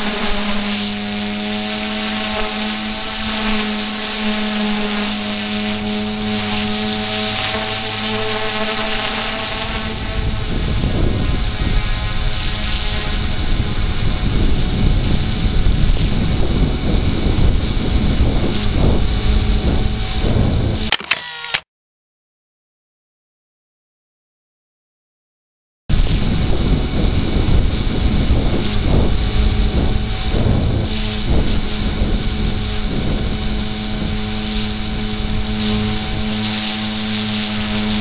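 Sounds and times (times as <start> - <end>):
high motor whine: 0.0 - 21.6, 25.9 - 38.0
rotor drone: 0.0 - 21.6, 25.9 - 38.0.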